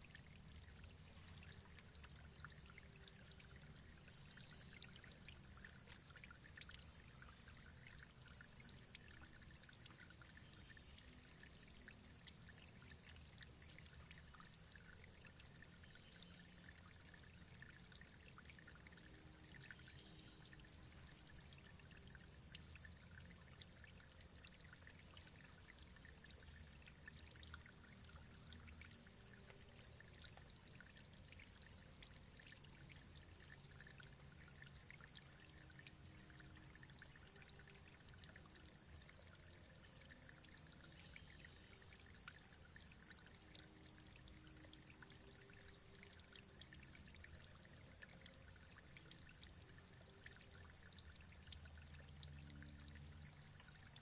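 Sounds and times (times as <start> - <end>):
faint running water: 0.0 - 54.0
small splashes and drips: 0.0 - 54.0.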